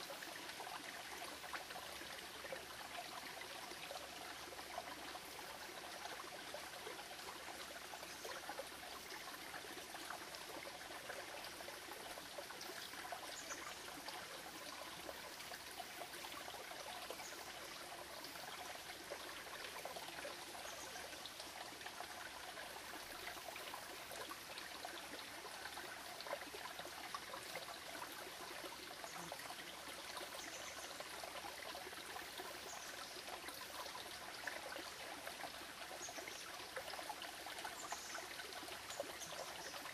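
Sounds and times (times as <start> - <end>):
creek trickling over stones: 0.0 - 39.9.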